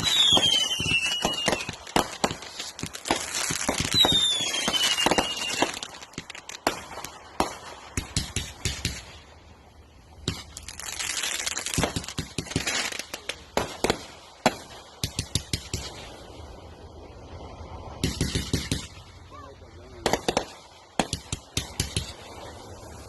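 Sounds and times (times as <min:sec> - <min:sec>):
fireworks bangs: 0:00.0 - 0:09.2, 0:10.2 - 0:16.2, 0:18.0 - 0:19.1, 0:20.0 - 0:22.3
fireworks crackling: 0:00.0 - 0:23.0.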